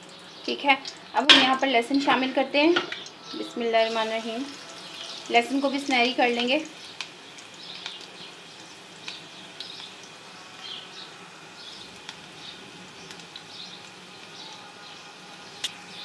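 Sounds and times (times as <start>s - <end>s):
sharp pops of frying: 0.0s - 3.2s, 4.4s - 14.5s
food sizzling in hot fat: 0.0s - 16.0s.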